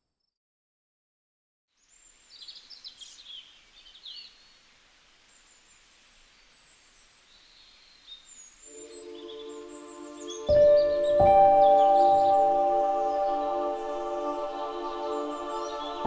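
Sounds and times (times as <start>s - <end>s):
faint outdoor hiss: 1.7s - 16.0s
birds chirping: 1.8s - 16.0s.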